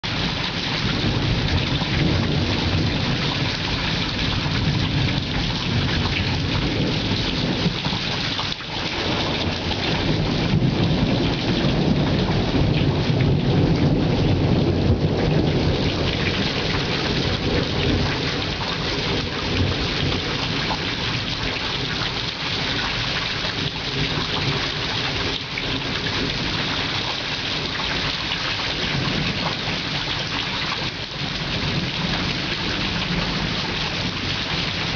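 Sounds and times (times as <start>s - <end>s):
steady rain: 0.0s - 34.9s
rolling thunder: 0.1s - 34.9s.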